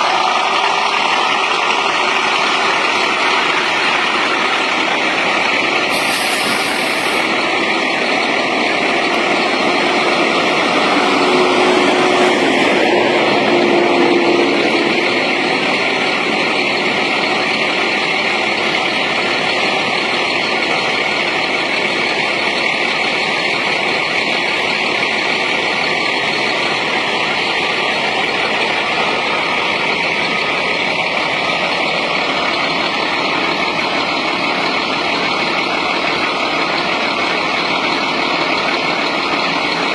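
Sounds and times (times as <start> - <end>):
heavy machinery running: 0.0 - 39.9.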